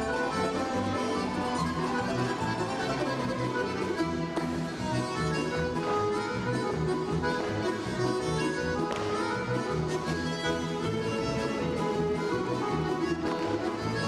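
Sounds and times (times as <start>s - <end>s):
music with sustained melody: 0.0s - 14.0s.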